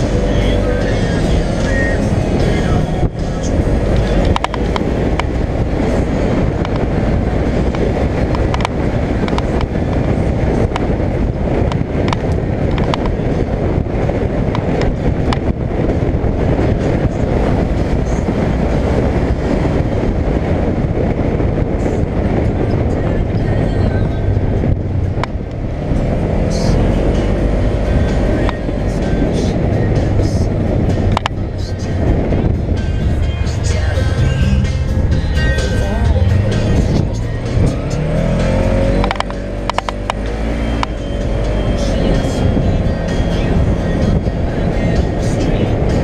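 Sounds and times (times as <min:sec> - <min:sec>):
vehicle engine running: 0:00.0 - 0:46.0.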